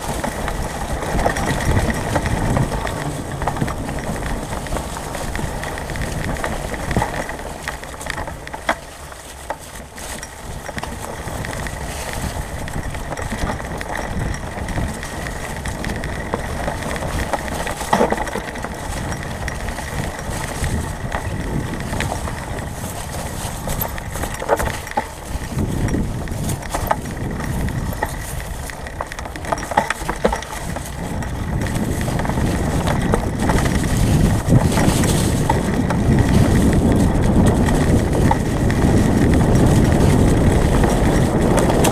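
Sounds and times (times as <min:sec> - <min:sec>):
bike rattling over bumps: 0:00.0 - 0:41.9
bike tyres on leafy dirt: 0:00.0 - 0:41.9
wind rumble on microphone: 0:00.0 - 0:41.9.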